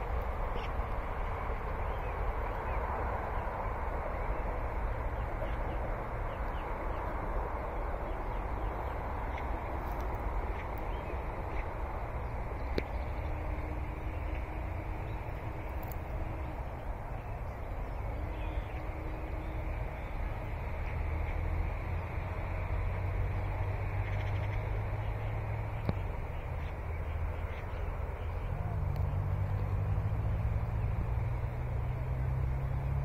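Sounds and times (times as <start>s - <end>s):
steady rumbling hiss: 0.0s - 33.0s.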